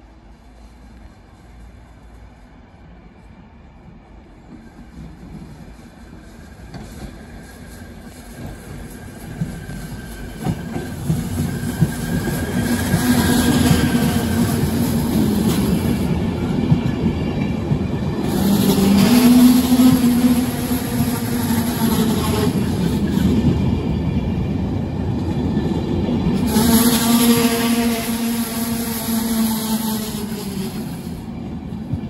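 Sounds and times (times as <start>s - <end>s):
wheel and rail rumble: 0.0s - 32.0s.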